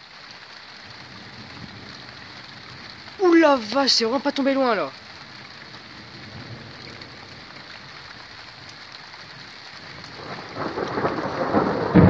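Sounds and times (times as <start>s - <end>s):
steady rain falling: 0.0s - 12.0s
thunder rumble: 0.9s - 12.0s.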